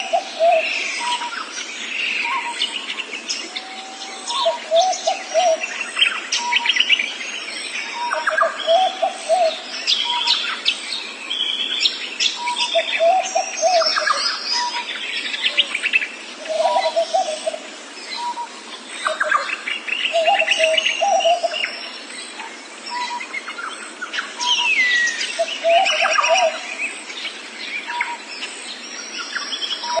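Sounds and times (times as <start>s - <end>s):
birds chirping and whistling: 0.0s - 30.0s.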